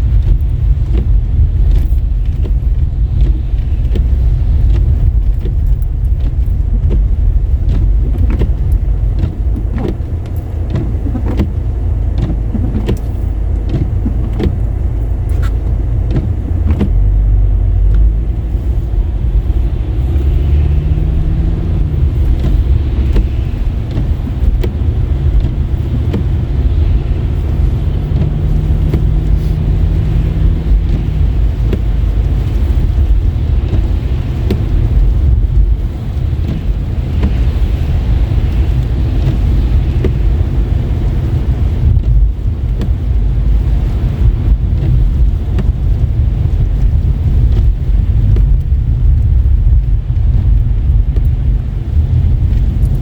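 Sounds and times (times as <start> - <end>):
car engine hum rising: 0.0 - 53.0
tyre rumble on wet road: 0.0 - 53.0.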